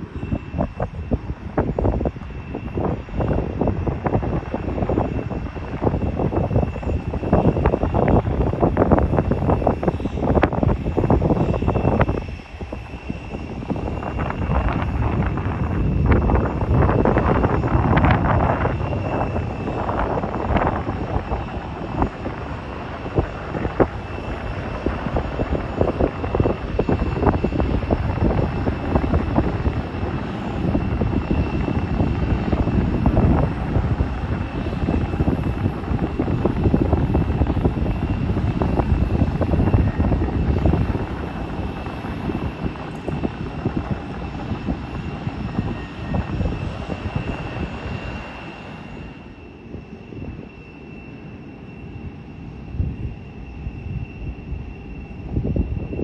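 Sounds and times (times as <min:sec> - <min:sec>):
jet engines running: 0:00.0 - 0:56.0
wind buffeting microphone: 0:00.0 - 0:56.0.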